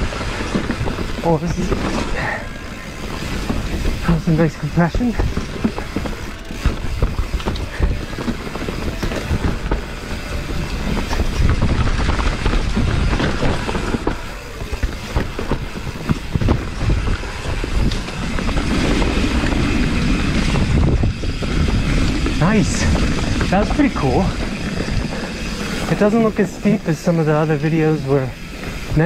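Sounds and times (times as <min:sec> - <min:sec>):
bike tyres rumbling over rocks: 0:00.0 - 0:29.0.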